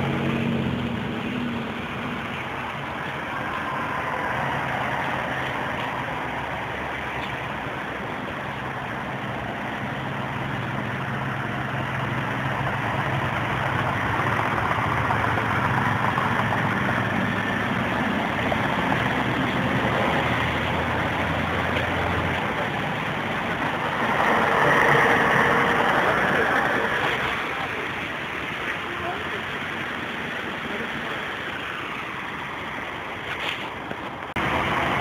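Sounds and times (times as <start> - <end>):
bus diesel engine droning: 0.0 - 35.0
passing street traffic: 0.0 - 35.0.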